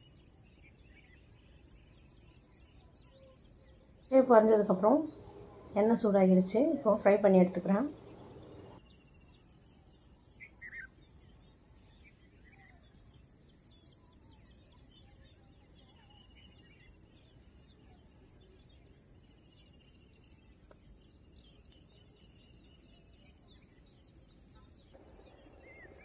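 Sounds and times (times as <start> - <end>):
bird chirps: 0.0 - 18.2, 19.3 - 26.0.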